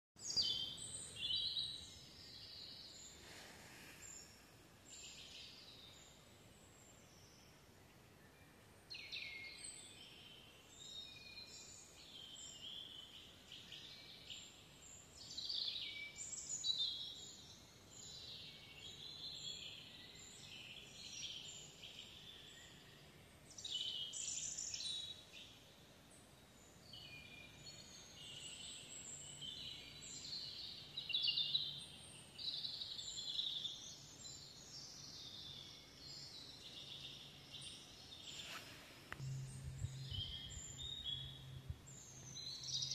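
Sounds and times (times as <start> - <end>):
songbirds chirping: 0.2 - 42.9.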